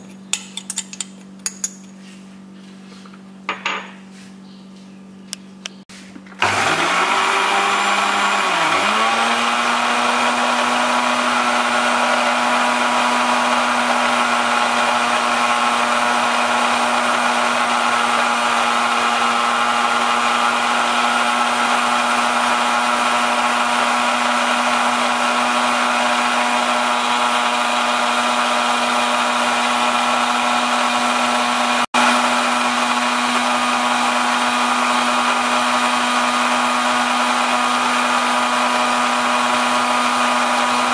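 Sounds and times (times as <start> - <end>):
blender motor running: 6.4 - 40.9.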